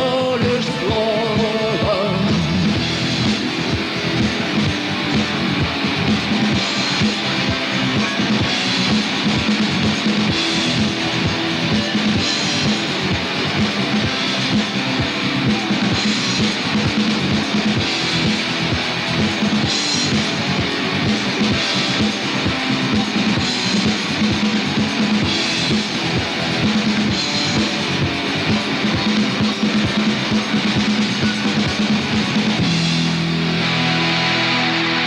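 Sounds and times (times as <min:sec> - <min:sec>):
fast drum beat: 0:00.0 - 0:34.4
strummed guitar: 0:00.0 - 0:35.0.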